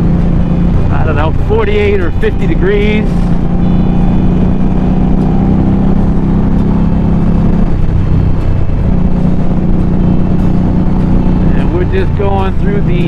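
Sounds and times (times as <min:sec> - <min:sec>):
motorcycle engine running: 0:00.0 - 0:13.0
rushing noise: 0:00.0 - 0:13.0.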